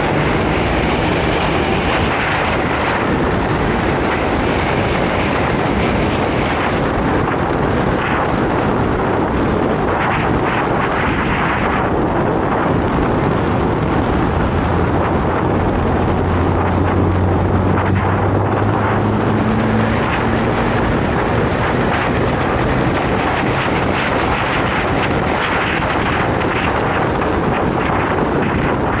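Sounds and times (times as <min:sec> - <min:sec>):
motorcycle engine hum: 0:00.0 - 0:29.0
wind rushing over microphone: 0:00.0 - 0:29.0.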